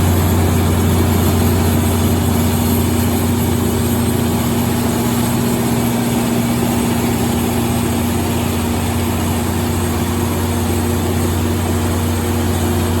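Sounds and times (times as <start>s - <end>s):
diesel generator droning: 0.0s - 13.0s.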